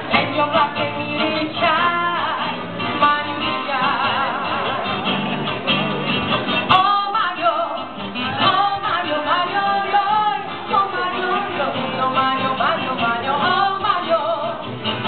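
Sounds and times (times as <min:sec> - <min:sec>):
woman singing: 0:00.0 - 0:05.1, 0:06.6 - 0:14.8
acoustic guitars strumming: 0:00.0 - 0:15.0.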